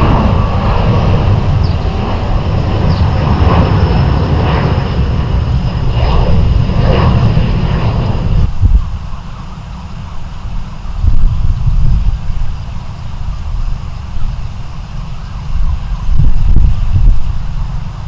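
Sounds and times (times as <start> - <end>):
jet engines rumbling with whine: 0.0 - 18.0.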